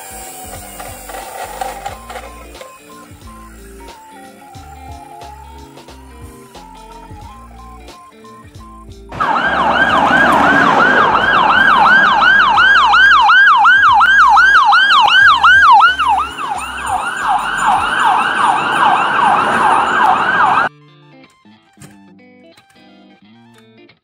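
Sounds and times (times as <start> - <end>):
ambulance siren yelping: 0.8 - 20.7.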